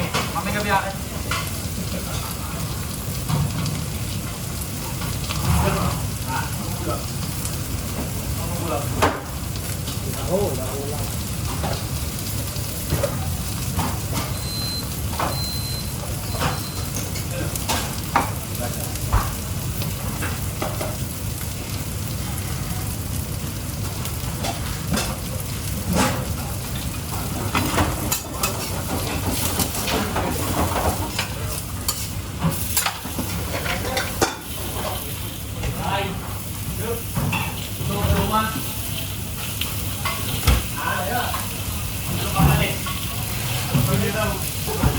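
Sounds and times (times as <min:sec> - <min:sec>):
food sizzling in a frying pan: 0:00.0 - 0:44.9.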